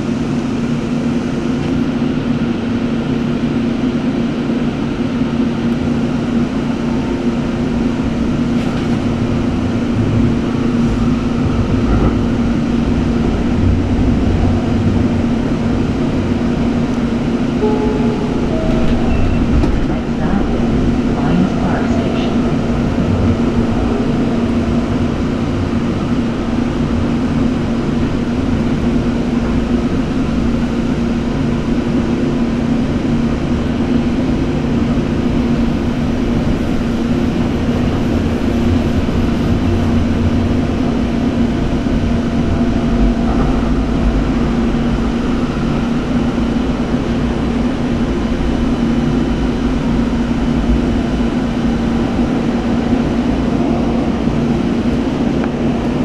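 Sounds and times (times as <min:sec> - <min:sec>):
steady low hum: 0:00.0 - 0:56.0
wheel-on-rail rumble: 0:00.0 - 0:56.0.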